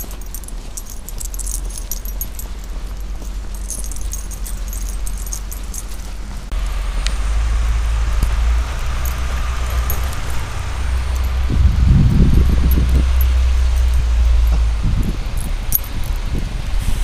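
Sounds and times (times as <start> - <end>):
dog collar tags jingling: 0.0 - 6.5, 8.2 - 16.6
low rumble: 0.0 - 17.0.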